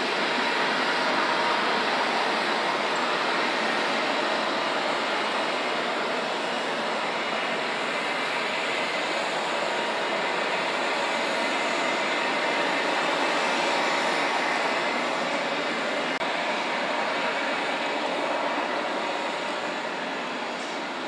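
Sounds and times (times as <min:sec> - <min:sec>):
jet engine rushing hiss: 0:00.0 - 0:21.0.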